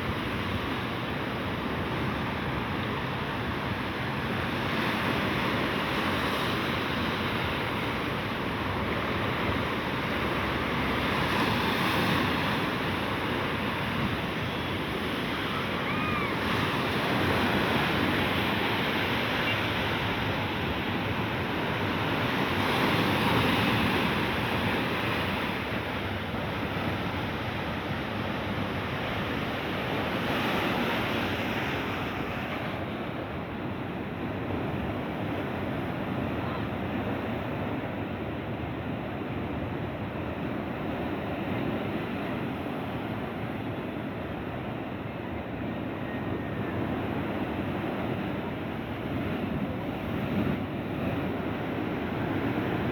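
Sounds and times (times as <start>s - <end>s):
sea surf washing ashore: 0.0s - 52.9s.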